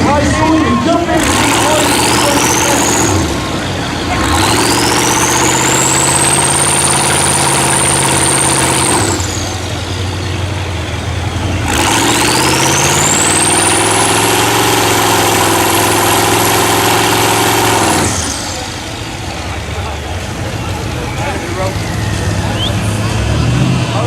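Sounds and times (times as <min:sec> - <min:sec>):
truck engine at full throttle: 0:00.0 - 0:24.0.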